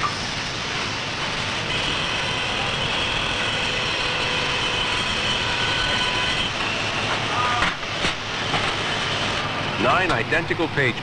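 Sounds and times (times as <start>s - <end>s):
high even whine: 0.0s - 11.0s
machinery running: 0.0s - 11.0s.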